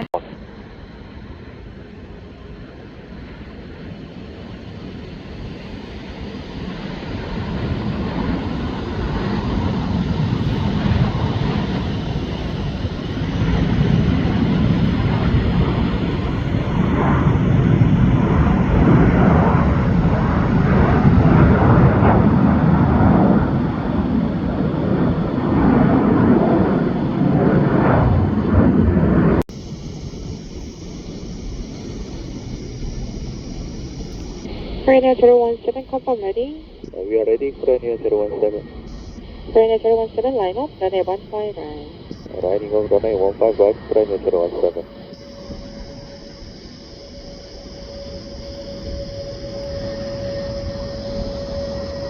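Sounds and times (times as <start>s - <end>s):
jet airliner engines rumbling: 0.0s - 52.0s.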